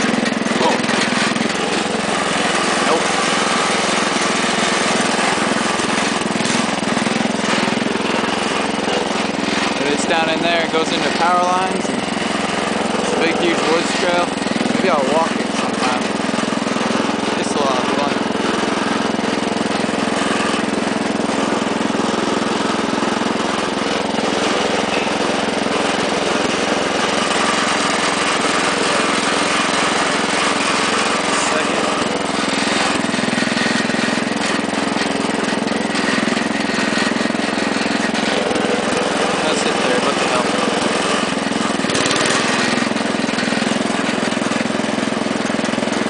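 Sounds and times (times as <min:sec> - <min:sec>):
small engine running steadily: 0:00.0 - 0:46.0.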